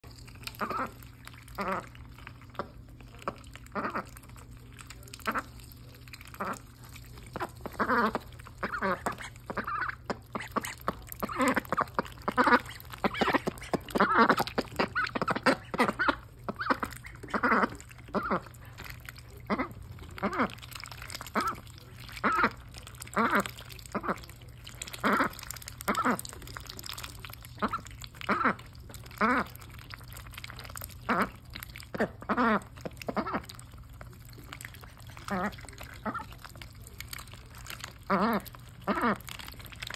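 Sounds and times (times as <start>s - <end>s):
ducklings dabbling in food: 0.0s - 39.9s.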